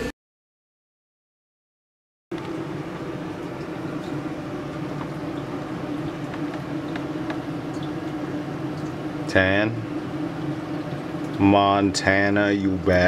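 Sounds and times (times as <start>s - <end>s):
mechanical hum: 2.3s - 13.0s.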